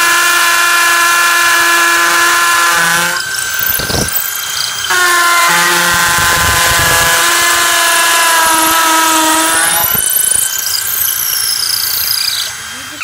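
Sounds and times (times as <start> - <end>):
hammer drill boring into concrete: 1.8 - 13.0.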